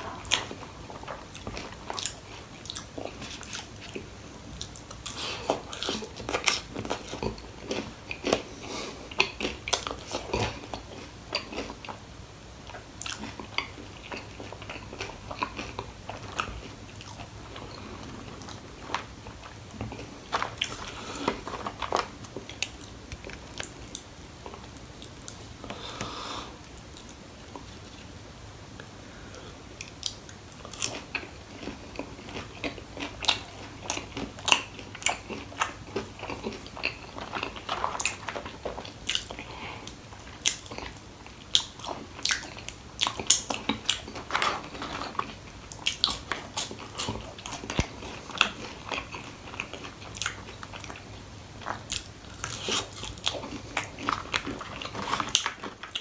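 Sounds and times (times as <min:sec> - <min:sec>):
chewing and crunching fried food: 0:00.0 - 0:28.2, 0:29.3 - 0:56.0.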